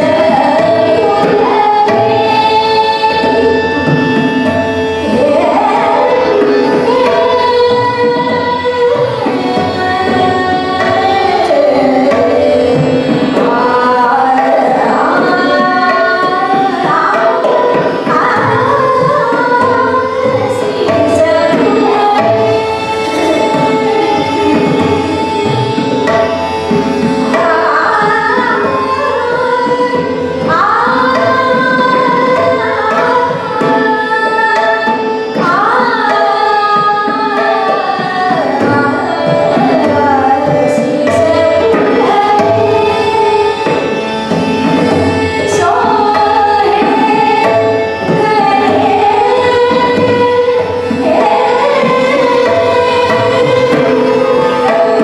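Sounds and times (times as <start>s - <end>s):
woman singing classical vocals: 0.0s - 3.4s, 5.0s - 25.6s, 27.3s - 43.8s, 45.3s - 55.0s
tabla: 0.0s - 55.0s.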